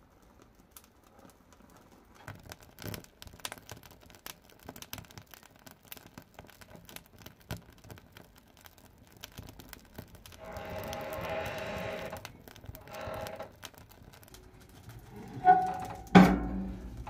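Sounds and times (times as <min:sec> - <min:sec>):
firewood crackling: 0:00.0 - 0:17.0.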